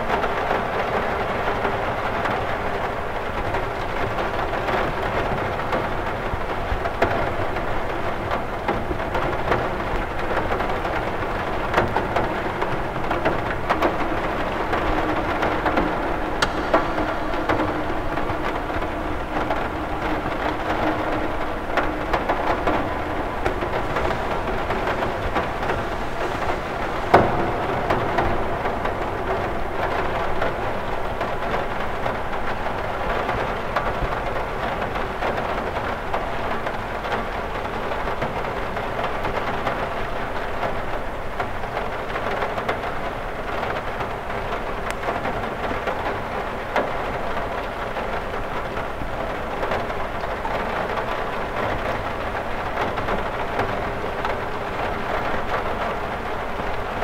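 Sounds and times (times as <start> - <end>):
rain pattering on a window: 0.0 - 57.0.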